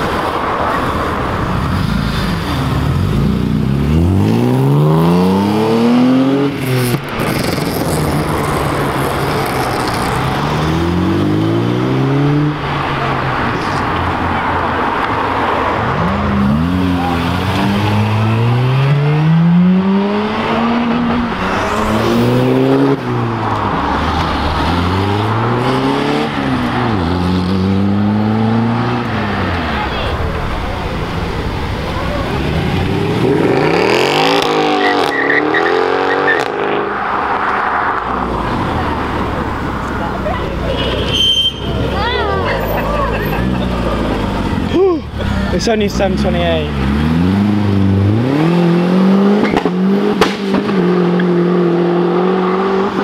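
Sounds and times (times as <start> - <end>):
cars accelerating hard: 0.0 - 40.7, 41.7 - 53.0.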